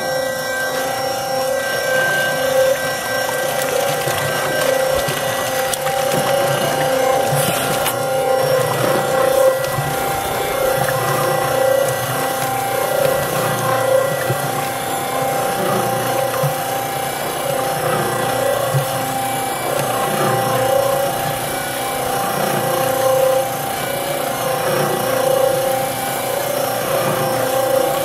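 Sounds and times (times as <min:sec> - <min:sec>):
cement mixer motor humming: 0:00.0 - 0:28.0.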